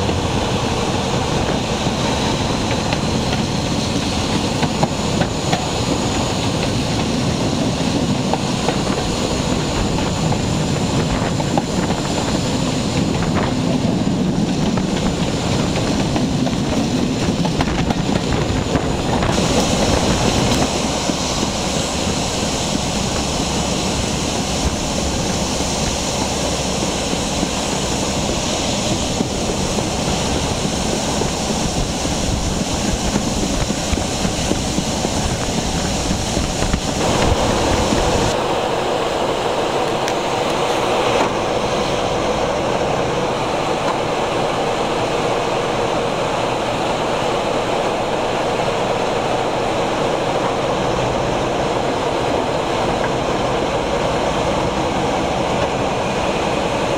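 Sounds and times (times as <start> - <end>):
diesel locomotive engine rumble: 0.0 - 56.9
train wheels on rail: 0.0 - 56.9
wind rush past window: 0.0 - 56.9.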